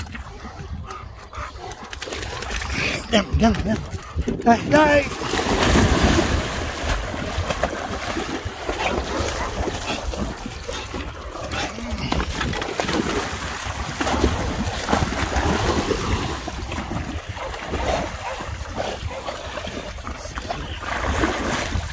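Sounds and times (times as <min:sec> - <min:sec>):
water splashing and sloshing: 0:00.0 - 0:21.9
wind on microphone: 0:00.0 - 0:21.9.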